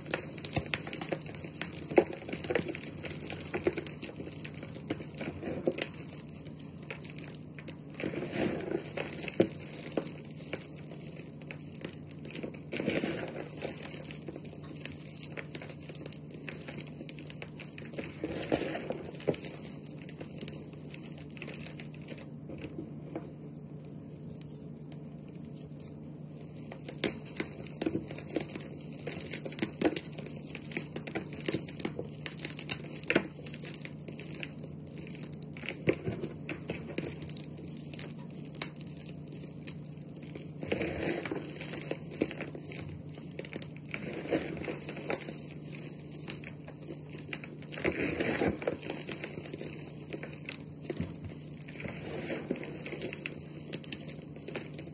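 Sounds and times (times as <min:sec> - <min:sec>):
chalk crunching and crackling: 0:00.0 - 0:54.9.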